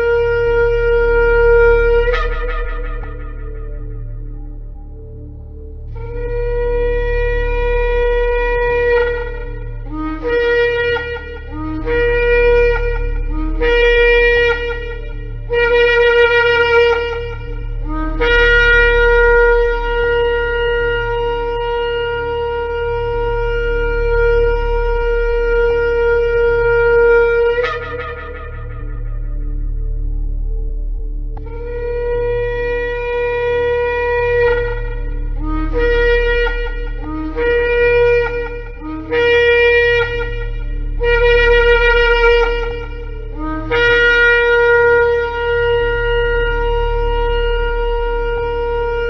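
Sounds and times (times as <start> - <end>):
ram's-horn trumpet blasts: 0.0 - 49.0
steady low hum: 0.0 - 49.0.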